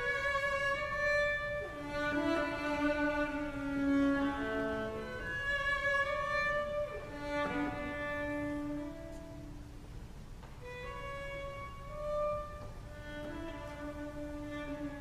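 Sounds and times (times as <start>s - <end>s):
cello playing long bowed notes: 0.0s - 9.7s, 10.6s - 15.0s.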